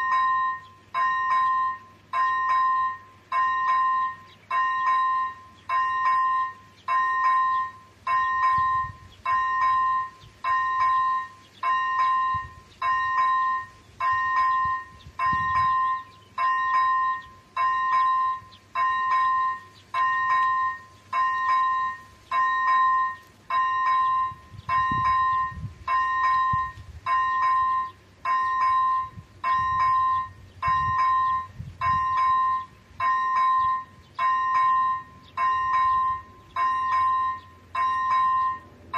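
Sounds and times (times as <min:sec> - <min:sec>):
level crossing warning bell: 0:00.0 - 0:38.9.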